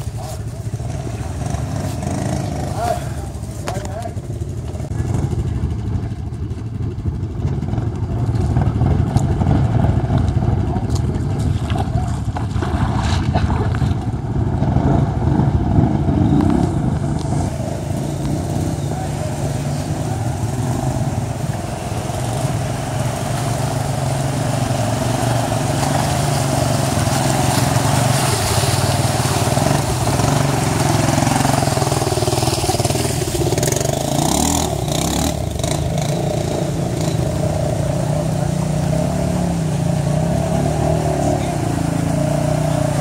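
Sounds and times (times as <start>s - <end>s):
atv engine running and revving: 0.0s - 43.0s.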